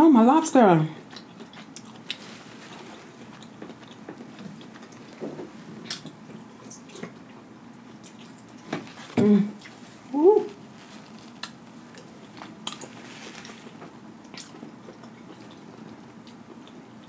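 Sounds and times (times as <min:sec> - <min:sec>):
person chewing food: 0:01.0 - 0:10.0, 0:10.6 - 0:17.0.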